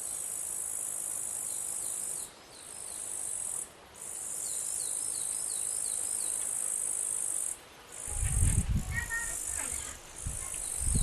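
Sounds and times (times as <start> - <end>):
insect buzzing: 0.0 - 11.0.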